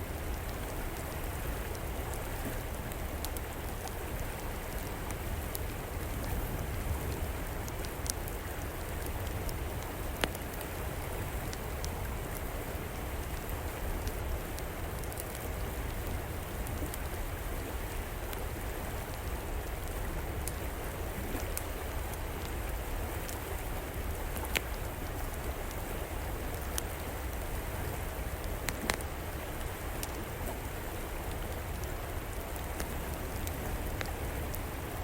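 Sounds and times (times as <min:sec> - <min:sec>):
river water flowing: 0:00.0 - 0:35.0
wood fire crackling: 0:00.1 - 0:35.0.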